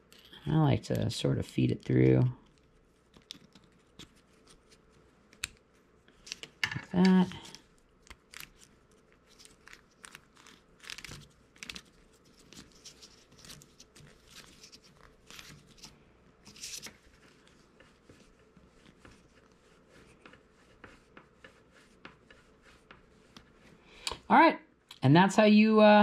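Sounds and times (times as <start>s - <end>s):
cable rustling: 2.4s - 23.8s.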